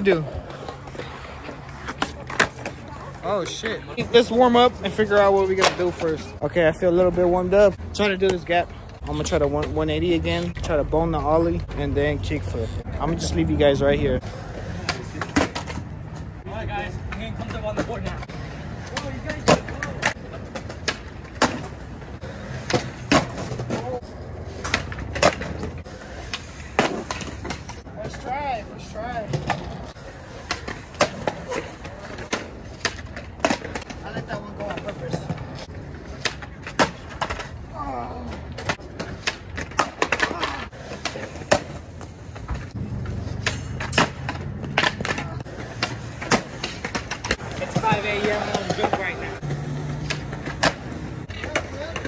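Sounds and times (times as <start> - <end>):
skateboard clacks: 0.0 - 6.4, 14.3 - 52.0
skateboards rolling on concrete: 0.0 - 52.0.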